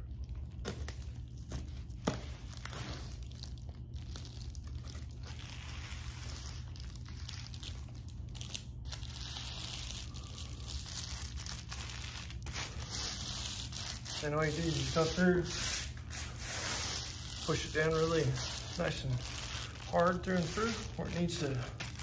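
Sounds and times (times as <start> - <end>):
foil insulation crinkling: 0.0 - 22.0
steady low hum: 0.0 - 22.0.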